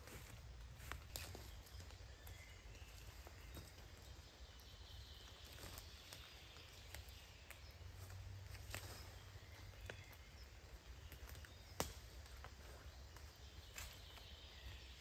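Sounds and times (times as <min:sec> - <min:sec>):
footsteps in wet leaves: 0:00.0 - 0:04.0, 0:05.1 - 0:15.0.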